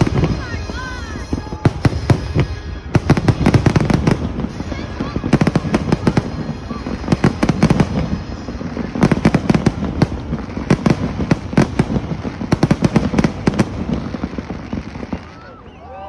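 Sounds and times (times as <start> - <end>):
fireworks crackling bangs: 0.0 - 16.0.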